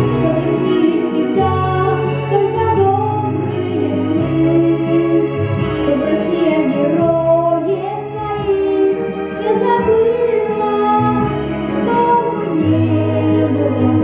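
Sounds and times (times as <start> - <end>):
child singing: 0.0 - 5.2, 5.8 - 14.0
backing track with bass notes: 0.0 - 14.0.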